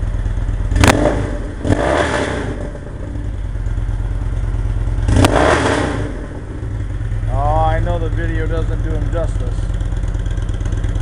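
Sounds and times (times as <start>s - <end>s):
motorcycle engine idling: 0.0s - 11.0s
motorcycle throttle revs: 0.0s - 11.0s.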